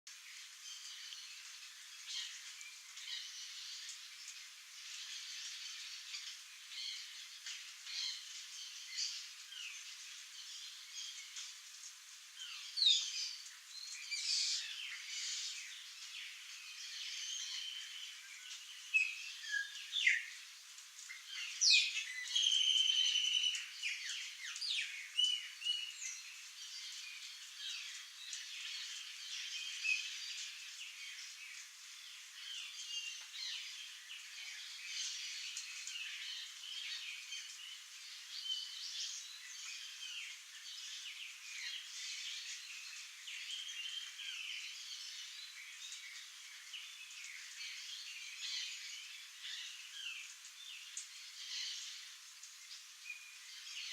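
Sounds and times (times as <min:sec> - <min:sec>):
birds chirping and trilling: 0:00.1 - 0:11.6, 0:12.3 - 0:53.9.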